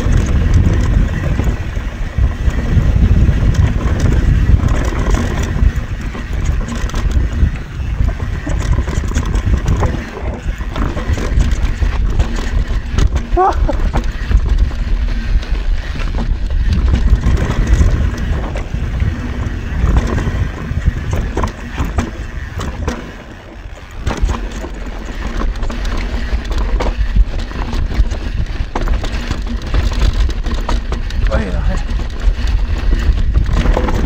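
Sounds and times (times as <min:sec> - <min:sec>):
bike knocking and rattling: 0:00.0 - 0:34.0
tyres rumbling over dirt and rock: 0:00.0 - 0:34.0.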